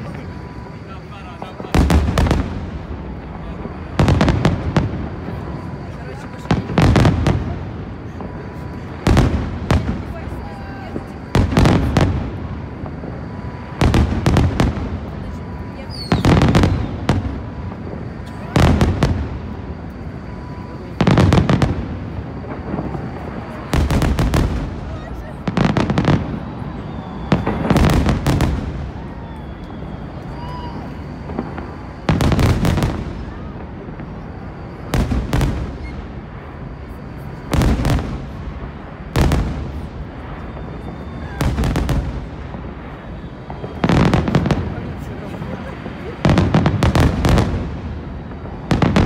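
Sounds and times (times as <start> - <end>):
rumble of distant fireworks: 0.0 - 49.0.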